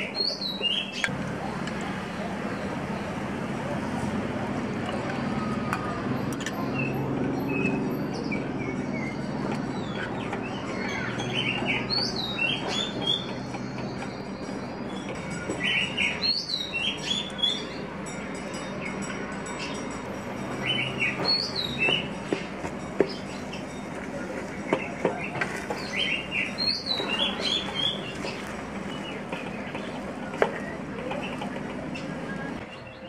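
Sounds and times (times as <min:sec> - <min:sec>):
songbird chirping: 0:00.0 - 0:03.4, 0:04.9 - 0:33.0.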